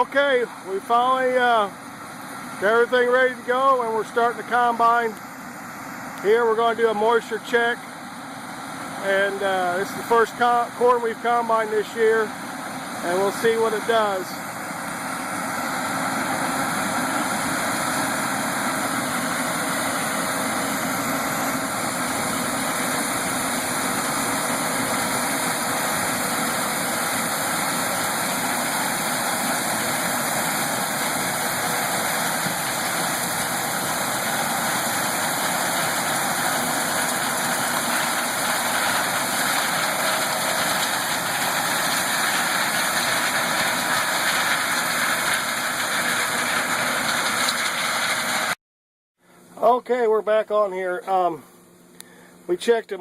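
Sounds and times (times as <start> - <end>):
combine harvester running: 0.0 - 48.6.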